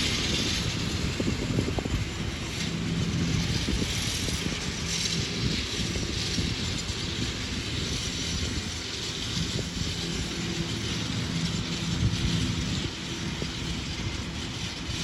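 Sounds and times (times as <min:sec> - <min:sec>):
tractor engine running: 0:00.0 - 0:15.0
wind buffeting microphone: 0:00.0 - 0:15.0.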